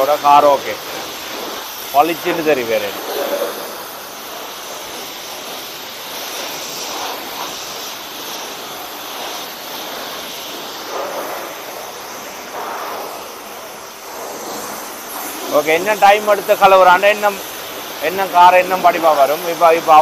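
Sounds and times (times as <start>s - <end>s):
high-pressure spray wand hissing: 0.0s - 20.0s.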